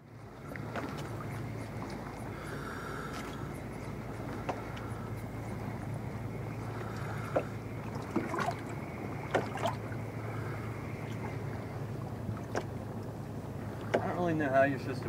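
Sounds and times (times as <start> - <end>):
boat motor idling: 0.0 - 15.0
wind: 0.0 - 15.0.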